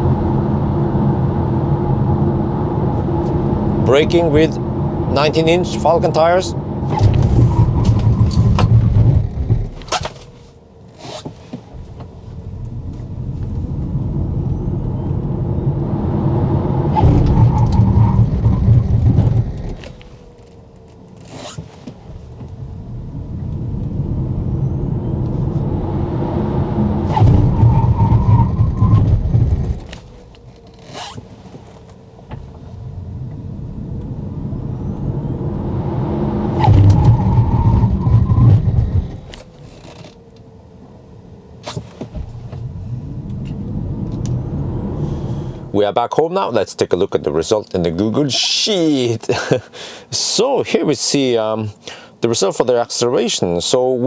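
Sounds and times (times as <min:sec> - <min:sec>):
loud low braking rumble: 0:00.0 - 0:47.4
road and tyre noise: 0:00.0 - 0:54.0.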